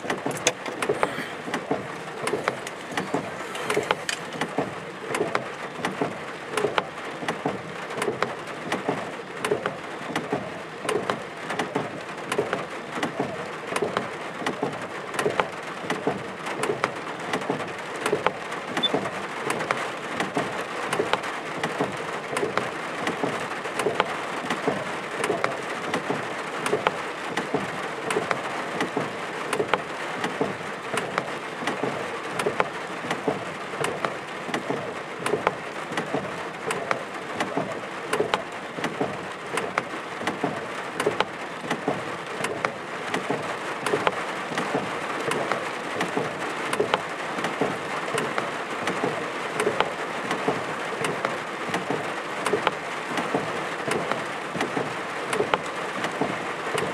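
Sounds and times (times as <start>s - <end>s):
raindrops tapping hard surface: 0.0s - 56.9s
steady rain: 0.0s - 56.9s.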